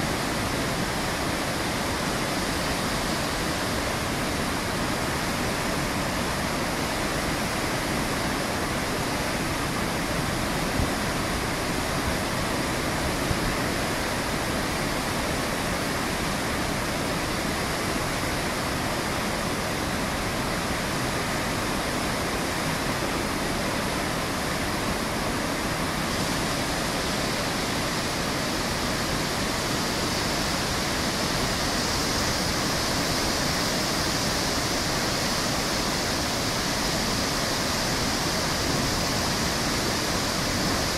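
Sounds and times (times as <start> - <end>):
water rushing down a spillway: 0.0 - 40.9.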